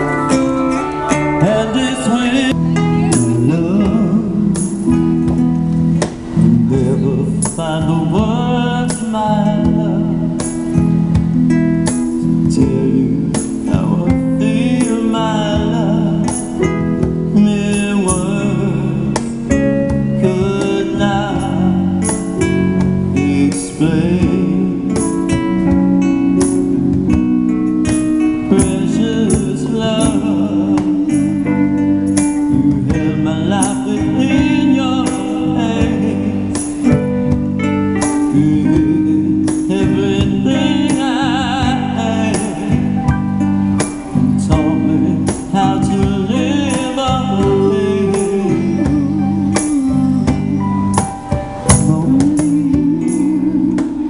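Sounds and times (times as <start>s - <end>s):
man singing into a microphone: 0.0s - 5.5s, 6.1s - 27.1s, 28.2s - 54.0s
acoustic guitar strumming: 0.0s - 54.0s.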